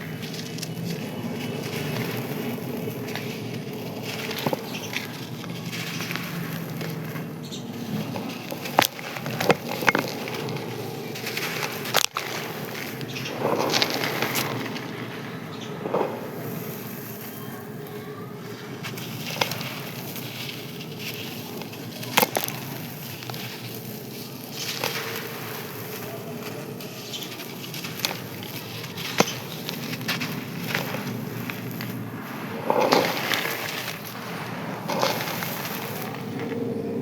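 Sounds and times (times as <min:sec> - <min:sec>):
dried sand crunching: 0:00.0 - 0:37.0.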